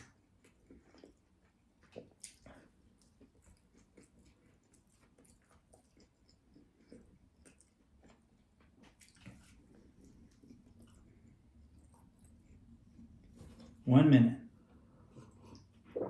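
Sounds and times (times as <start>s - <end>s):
faint chewing and mouth noises: 0.0s - 13.9s, 14.5s - 16.0s.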